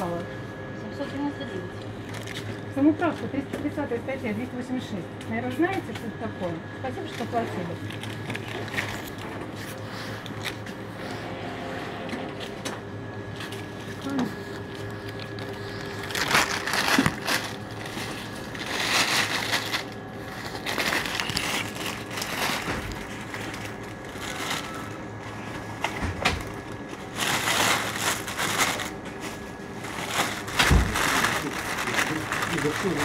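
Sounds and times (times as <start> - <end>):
plastic bags rustling: 2.0 - 4.6, 6.9 - 11.0, 13.3 - 33.0.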